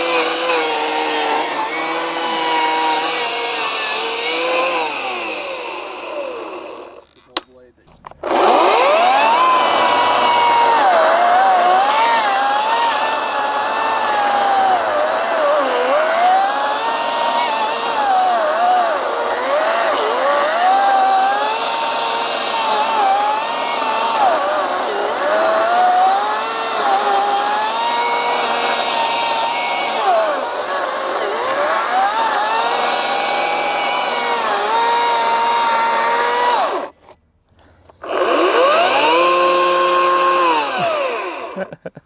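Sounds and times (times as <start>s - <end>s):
electric chainsaw cutting wood: 0.0s - 7.4s, 8.0s - 37.2s, 37.9s - 42.0s.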